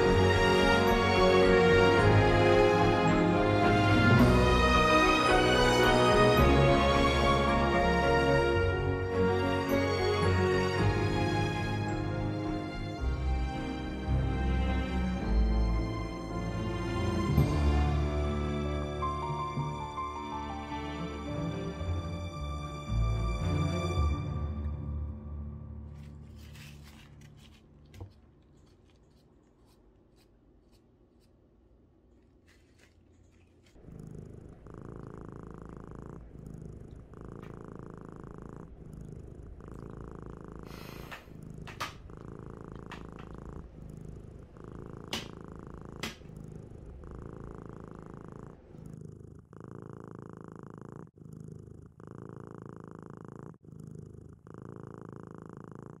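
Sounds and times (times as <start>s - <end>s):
cat purring: 0.0s - 17.8s, 25.9s - 56.0s.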